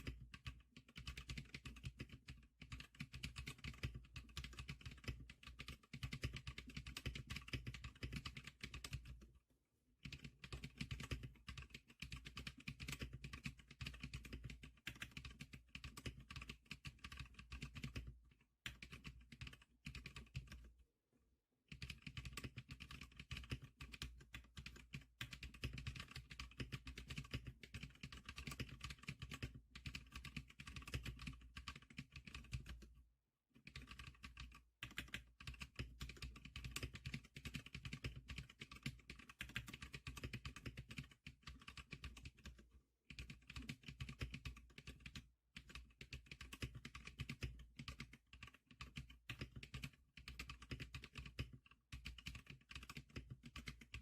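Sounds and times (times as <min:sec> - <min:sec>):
rapid keyboard typing: 0:00.0 - 0:09.3, 0:10.0 - 0:20.8, 0:21.7 - 0:33.0, 0:33.6 - 0:54.0.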